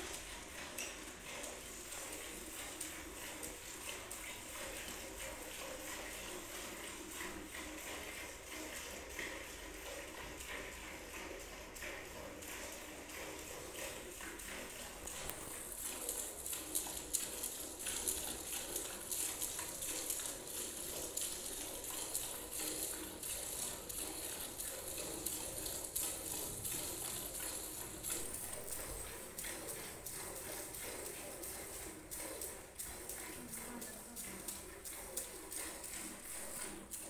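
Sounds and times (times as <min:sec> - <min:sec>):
milk squirting into a steel bucket: 0:00.0 - 0:37.0.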